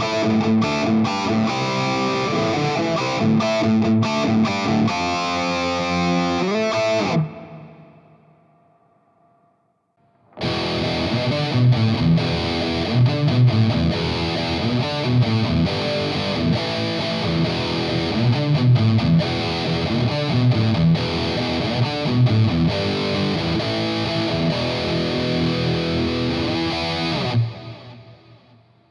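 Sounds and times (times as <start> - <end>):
electric guitar riff: 0.0 - 8.5, 10.2 - 28.9.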